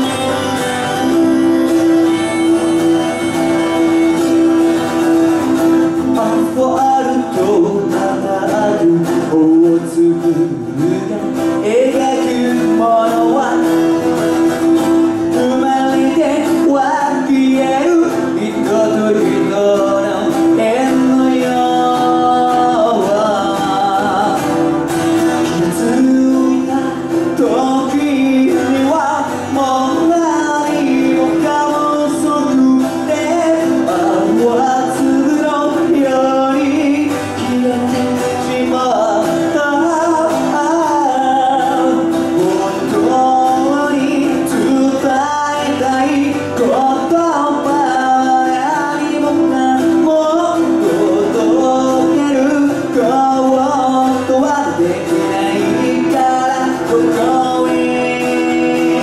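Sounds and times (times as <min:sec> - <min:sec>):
acoustic guitar: 0:00.0 - 0:59.0
man singing slow song: 0:00.0 - 0:59.0.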